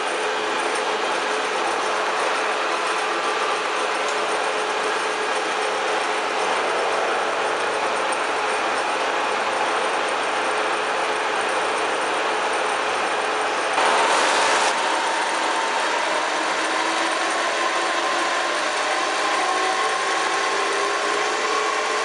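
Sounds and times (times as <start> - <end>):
milling machine running: 0.0 - 22.0.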